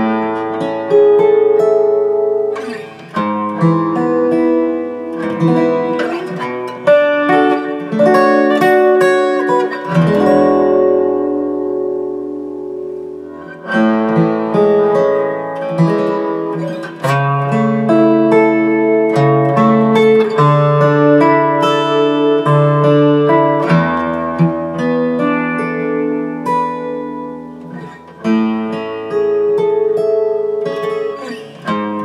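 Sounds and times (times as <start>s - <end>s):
acoustic guitar flatpicking: 0.0s - 32.0s.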